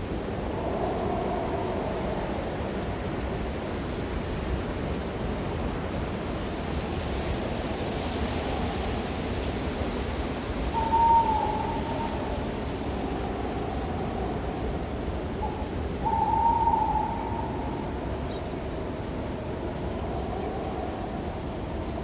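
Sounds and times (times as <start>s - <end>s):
steady wind blowing: 0.0s - 22.0s.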